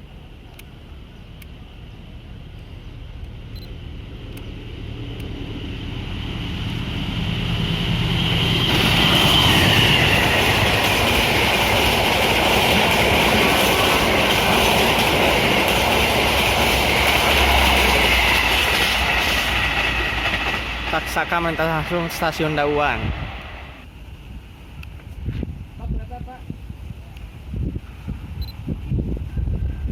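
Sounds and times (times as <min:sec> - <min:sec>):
wheel and rail noise: 0:00.0 - 0:25.7
train passing: 0:00.0 - 0:29.9.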